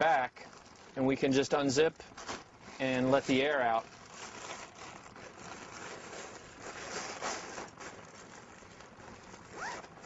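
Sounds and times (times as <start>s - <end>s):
kite fabric rustling and crinkling: 0.0s - 10.0s.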